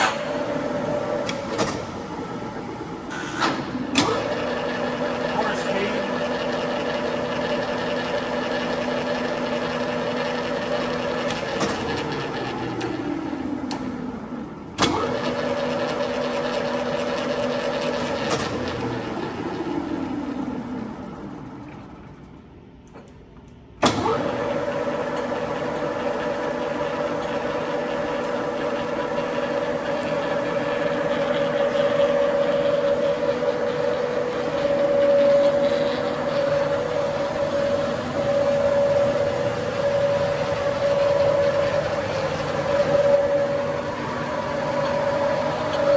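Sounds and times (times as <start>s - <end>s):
lathe humming: 0.0s - 21.2s, 24.0s - 45.9s.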